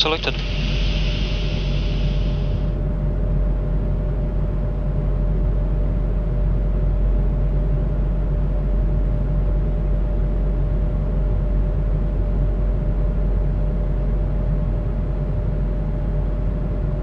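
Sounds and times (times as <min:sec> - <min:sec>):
rumble of airflow and engines: 0:00.0 - 0:17.0
steady hum: 0:00.0 - 0:17.0.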